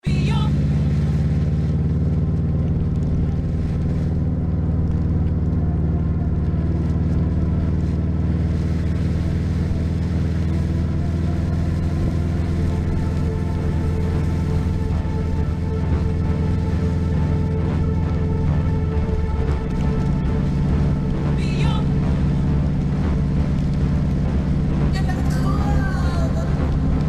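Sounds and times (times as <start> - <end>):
car engine drone: 0.0 - 27.0
road noise: 0.0 - 27.0.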